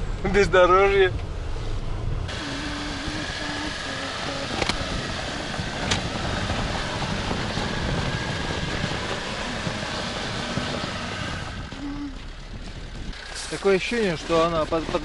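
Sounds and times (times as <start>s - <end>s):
car engine revving: 1.4s - 15.0s
wheels spinning in snow: 2.3s - 15.0s.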